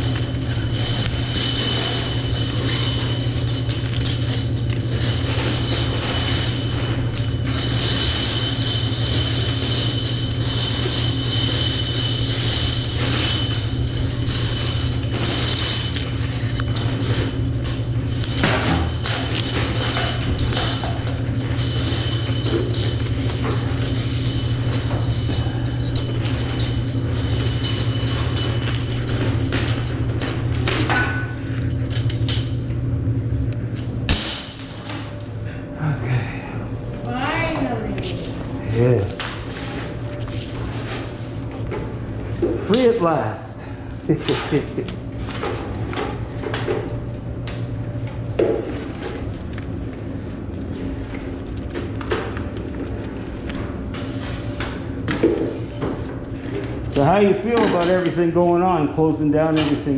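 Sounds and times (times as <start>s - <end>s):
drain machine motor hum: 0.0s - 59.9s.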